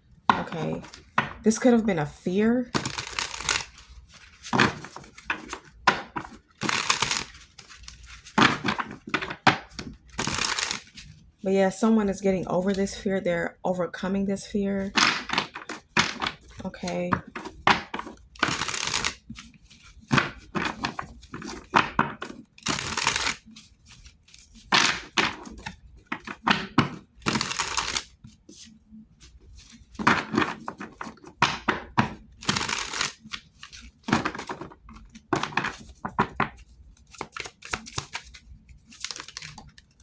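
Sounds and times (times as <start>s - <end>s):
cards being shuffled: 2.7s - 11.2s, 14.9s - 40.0s.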